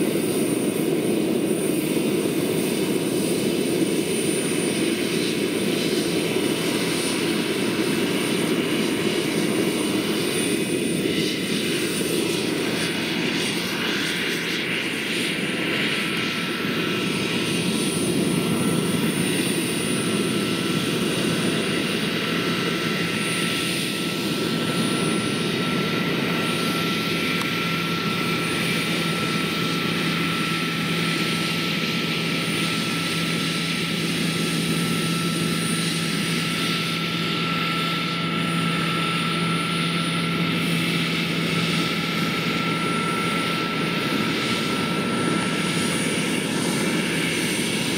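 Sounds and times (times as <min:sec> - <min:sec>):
model helicopter turbine whine: 0:00.0 - 0:47.9.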